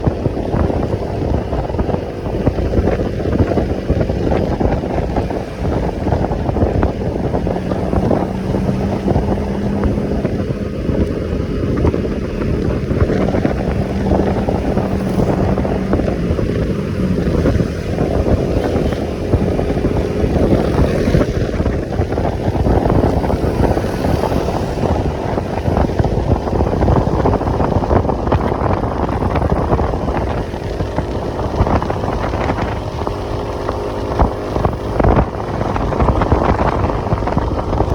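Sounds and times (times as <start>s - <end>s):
motorcycle engine running: 0.0s - 37.9s
wind rushing over microphone: 0.0s - 37.9s.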